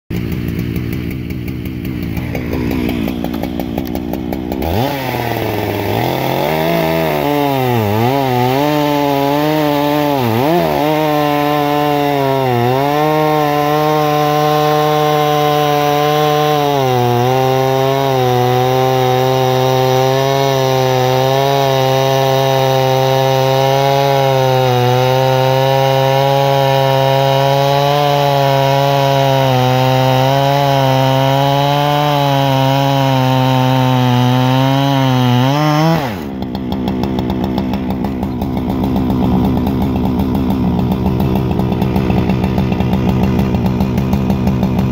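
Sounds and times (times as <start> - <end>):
chainsaw cutting wood: 0.1 - 44.9.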